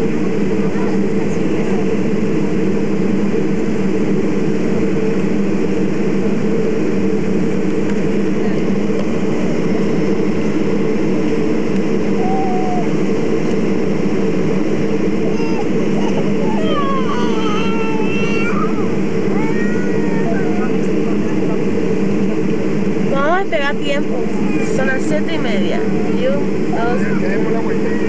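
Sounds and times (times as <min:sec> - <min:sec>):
airliner engines droning in cabin: 0:00.0 - 0:28.0.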